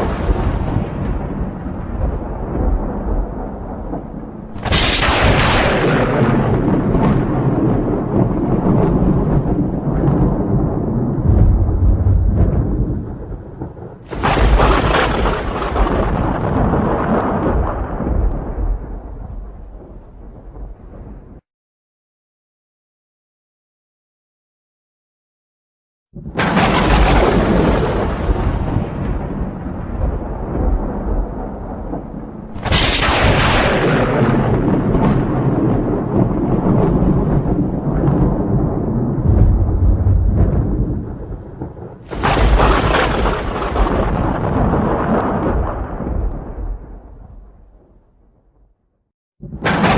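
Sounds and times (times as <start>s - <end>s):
sharp thunderclap: 0.0s - 21.4s, 26.2s - 48.7s, 49.4s - 49.9s
thunder rumbling: 0.0s - 21.4s, 26.2s - 48.8s, 49.4s - 49.9s.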